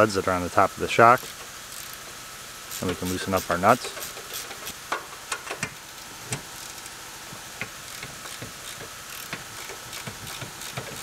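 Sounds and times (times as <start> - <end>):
ratchet wrench clicking: 1.2 - 7.0, 7.6 - 11.0.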